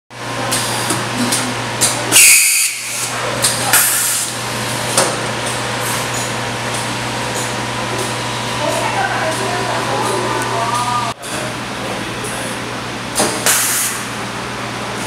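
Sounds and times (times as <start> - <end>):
machine hum: 0.2 - 13.2.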